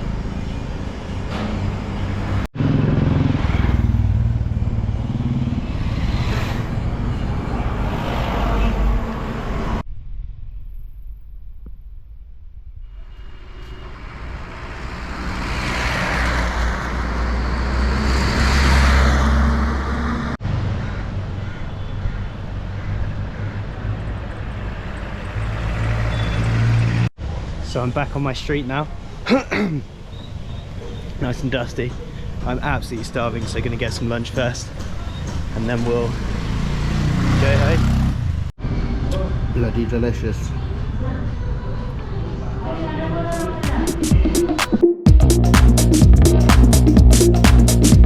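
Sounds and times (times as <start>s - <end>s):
vehicle engines passing: 0.0s - 9.9s, 12.9s - 29.2s, 29.8s - 43.6s.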